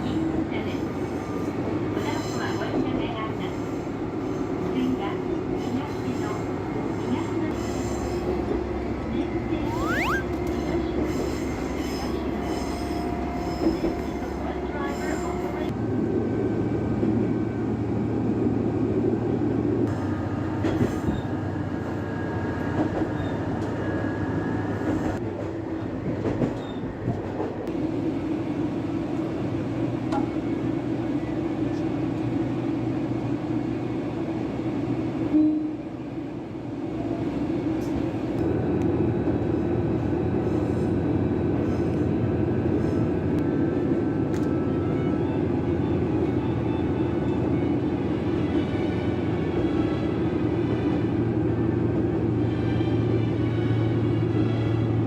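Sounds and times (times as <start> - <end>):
railcar engine and wheels drone: 0.0 - 55.0.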